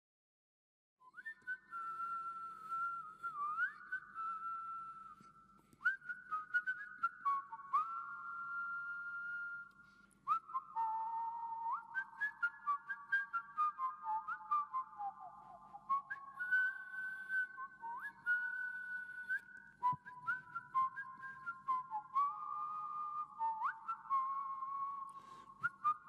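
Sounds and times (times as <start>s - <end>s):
slow whistled melody: 1.0s - 26.0s.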